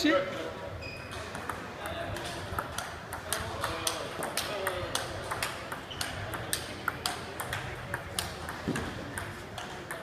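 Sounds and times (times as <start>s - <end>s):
table tennis ball clicking: 1.1s - 10.0s.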